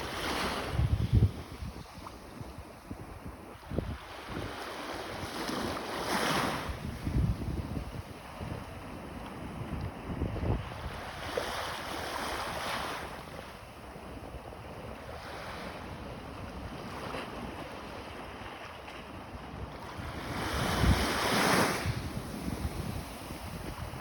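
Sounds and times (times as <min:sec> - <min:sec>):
surf washing up beach: 0:00.0 - 0:03.4, 0:04.0 - 0:24.0.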